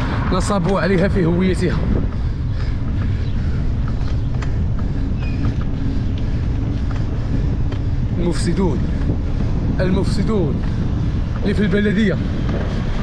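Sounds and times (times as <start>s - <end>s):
vehicle road rumble: 0.0s - 13.0s
wind buffeting microphone: 0.0s - 13.0s.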